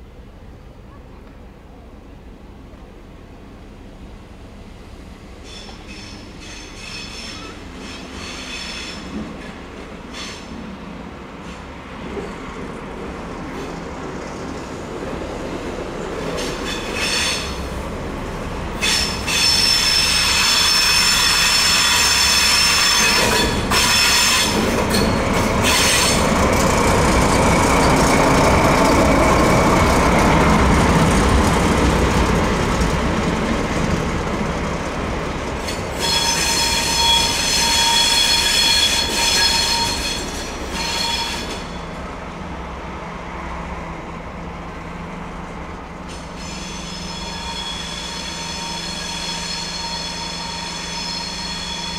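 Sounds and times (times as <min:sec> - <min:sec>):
train rumbling by: 0:00.0 - 0:51.9
train wheels squealing on rails: 0:05.1 - 0:34.9, 0:35.5 - 0:42.1, 0:45.0 - 0:51.9.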